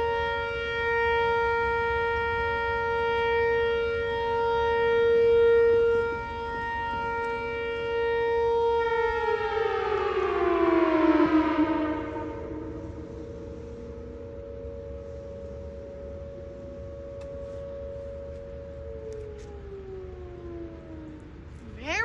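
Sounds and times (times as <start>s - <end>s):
warning siren steady tone: 0.0s - 22.0s.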